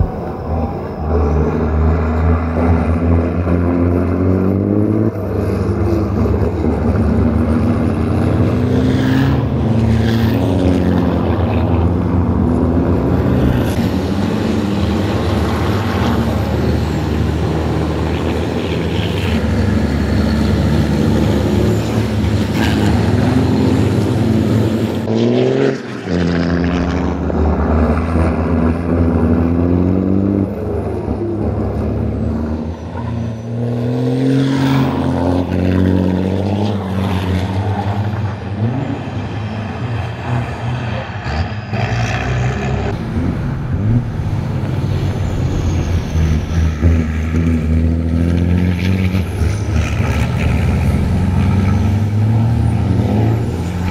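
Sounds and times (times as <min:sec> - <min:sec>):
truck engines accelerating past: 0:00.0 - 0:53.9.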